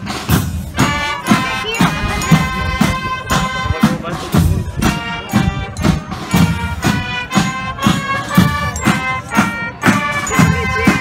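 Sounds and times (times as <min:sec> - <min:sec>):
drum beating: 0:00.0 - 0:11.0
military band playing a march: 0:00.0 - 0:11.0.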